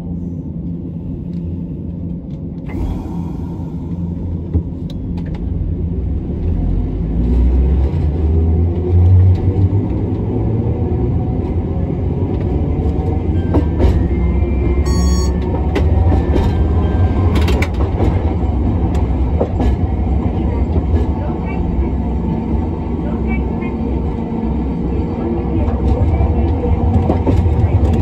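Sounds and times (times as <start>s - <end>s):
tram wheels rumbling: 0.0s - 28.0s.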